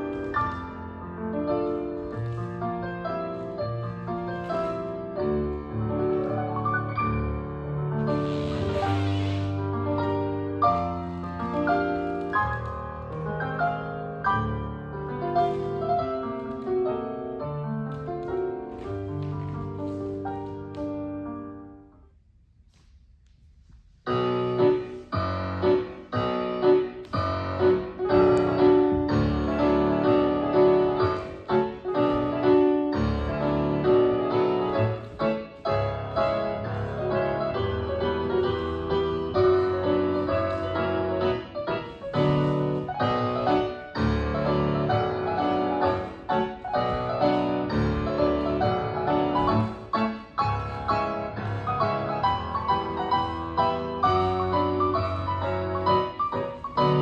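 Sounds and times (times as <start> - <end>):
solo piano chords: 0.0 - 22.1, 24.0 - 57.0.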